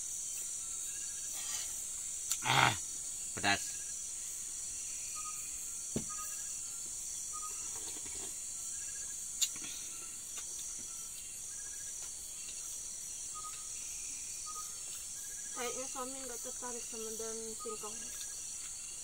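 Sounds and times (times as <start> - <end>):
faint cricket chirps: 0.0 - 19.0
night insects chorus: 0.0 - 19.0.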